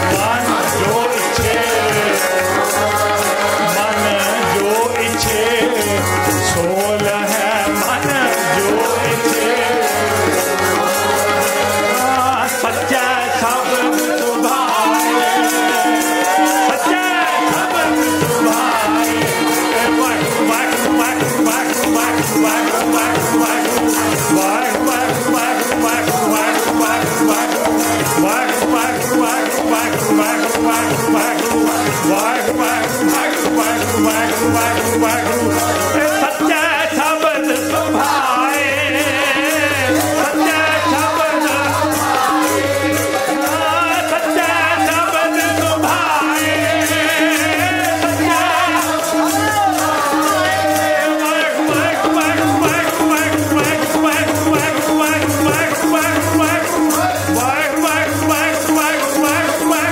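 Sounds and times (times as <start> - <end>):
drum rhythm: 0.0 - 59.9
harmonium drone: 0.0 - 59.9
jingling rattling percussion: 0.0 - 59.9
person singing: 0.0 - 59.9.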